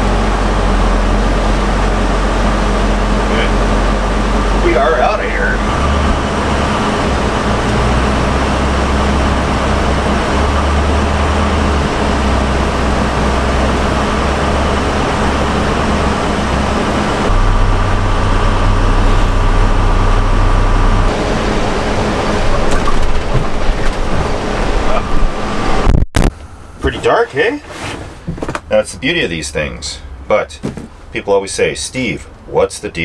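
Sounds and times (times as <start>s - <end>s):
bus engine drone: 0.0s - 33.0s
road noise: 0.0s - 33.0s.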